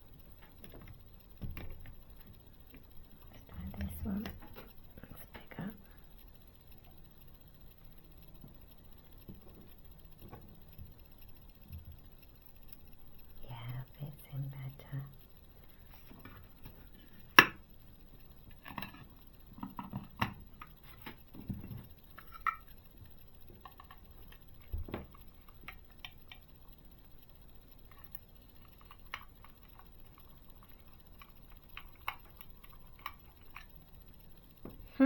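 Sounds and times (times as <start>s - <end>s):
small plastic parts clicking: 0.0s - 35.0s.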